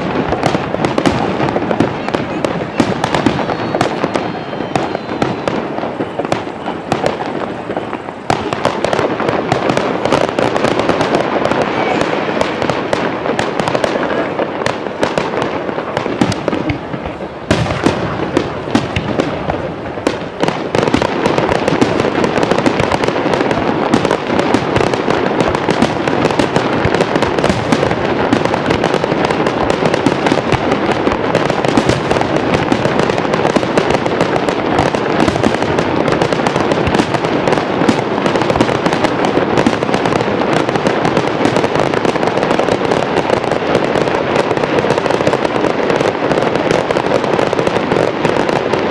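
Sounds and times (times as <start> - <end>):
fireworks bursting and crackling: 0.0 - 48.9.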